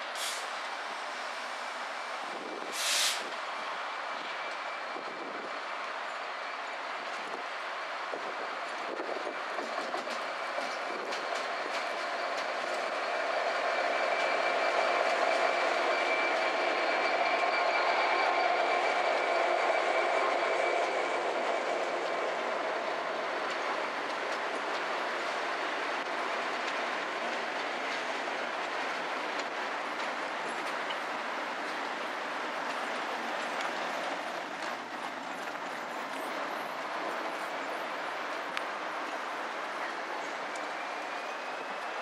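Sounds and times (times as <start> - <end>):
train whine and rumble: 0.0 - 42.0
train wheels clattering over rails: 4.2 - 42.0.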